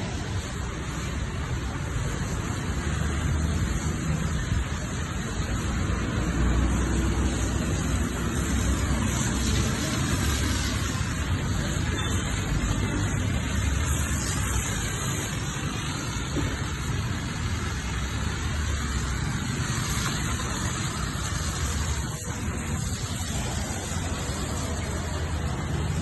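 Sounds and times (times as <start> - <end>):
pressure washer spraying: 0.1 - 26.0.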